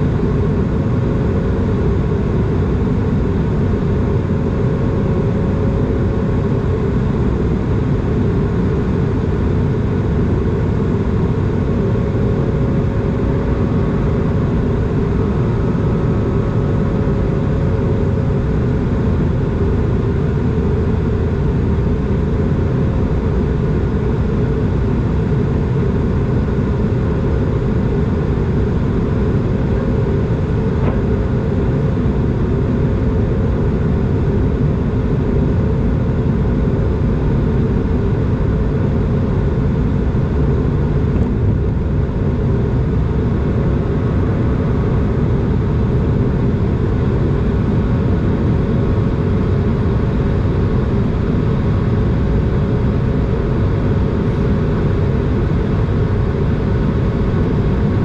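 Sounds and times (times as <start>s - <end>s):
aircraft cabin rumble: 0.0s - 58.0s
faint steady hum: 0.0s - 58.0s.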